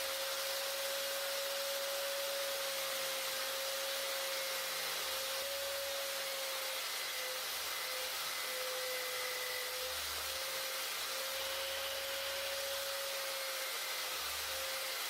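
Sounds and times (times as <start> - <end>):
electric motor running: 0.0 - 15.0
hiss: 0.0 - 15.0.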